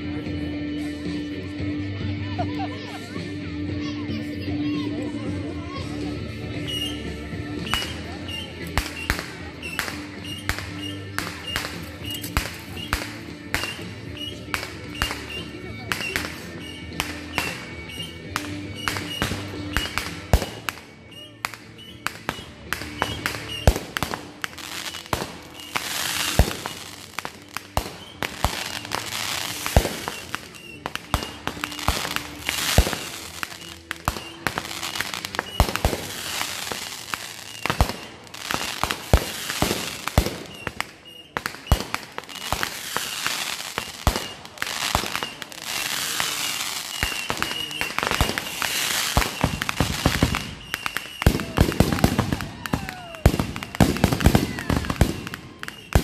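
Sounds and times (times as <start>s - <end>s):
fireworks crackling: 5.6s - 56.0s
fireworks banging: 6.5s - 56.0s.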